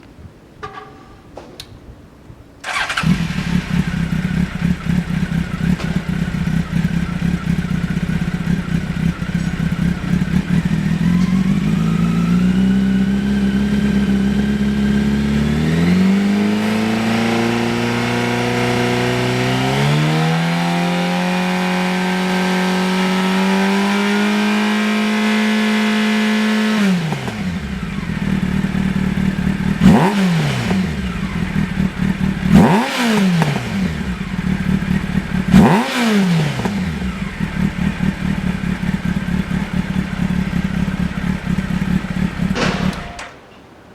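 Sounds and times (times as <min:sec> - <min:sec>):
motorcycle engine revving: 0:02.6 - 0:43.3.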